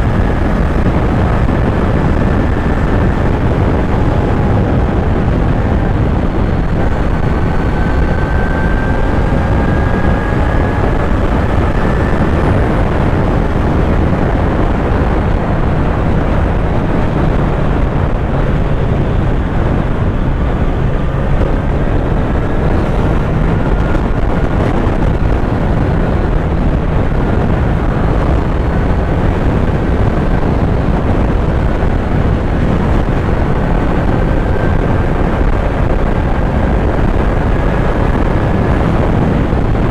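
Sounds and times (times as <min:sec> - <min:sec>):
motorcycle engine running: 0:00.0 - 0:39.9
tire noise on a moving road: 0:00.0 - 0:39.9
wind rush: 0:00.0 - 0:39.9.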